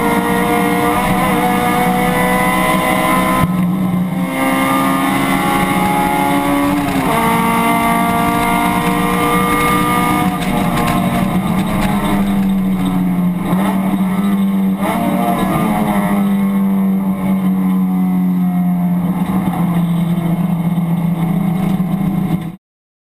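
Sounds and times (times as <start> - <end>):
race car engine running hard: 0.0 - 22.6.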